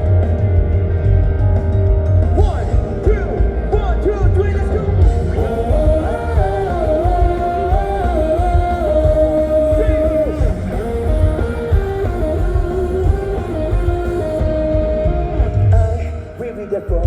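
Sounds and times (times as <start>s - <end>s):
lead melody with sliding notes: 0.0s - 17.0s
live rock band playing: 0.0s - 17.0s.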